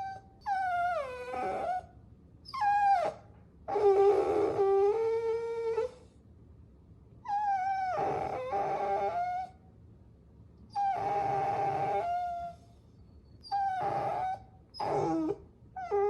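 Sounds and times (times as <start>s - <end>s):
puppy whining: 0.0s - 6.2s, 7.2s - 9.6s, 10.7s - 16.0s.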